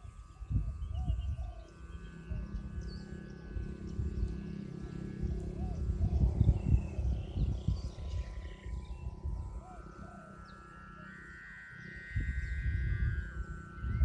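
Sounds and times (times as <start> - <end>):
wind buffeting microphone: 0.0 - 10.5, 12.0 - 14.0
bird chirps: 0.0 - 14.0
kite hummer drone: 0.0 - 14.0.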